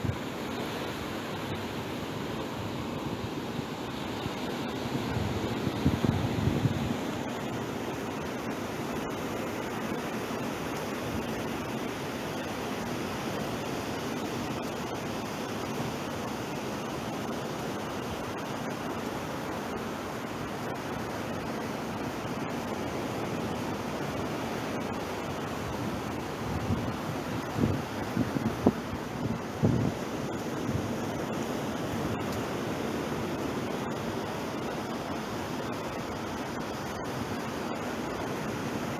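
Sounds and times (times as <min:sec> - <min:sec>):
ocean surf washing on beach: 0:00.0 - 0:38.9.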